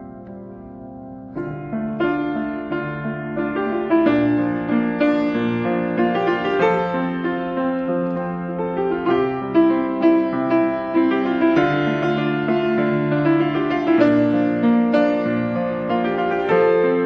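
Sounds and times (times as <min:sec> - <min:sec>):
slow tender piano piece: 0:00.0 - 0:17.0.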